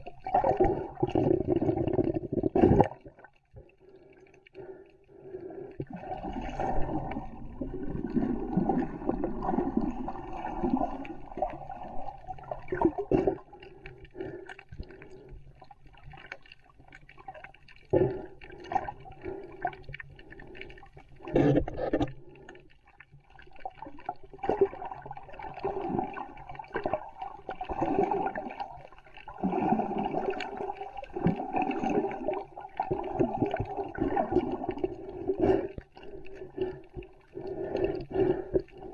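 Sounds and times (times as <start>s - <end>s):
muffled underwater sloshing: 0.0s - 38.9s.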